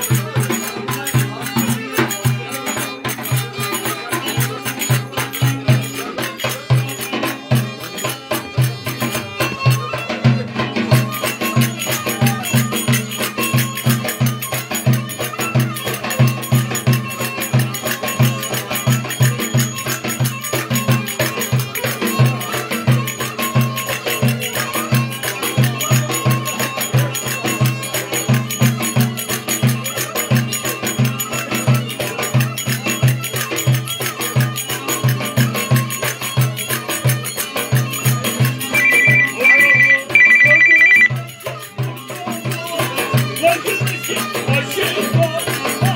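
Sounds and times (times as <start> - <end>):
folk music with fast drum beat: 0.0 - 45.9.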